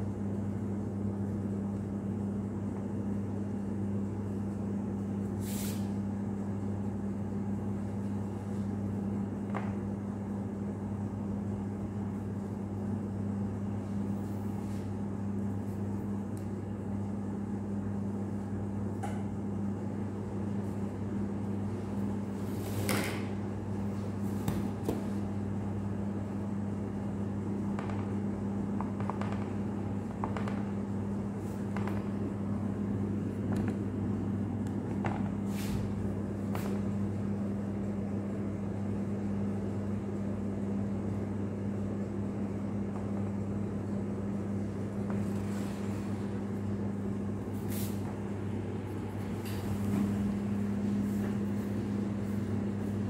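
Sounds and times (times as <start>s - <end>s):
low electrical machinery hum: 0.0s - 53.0s.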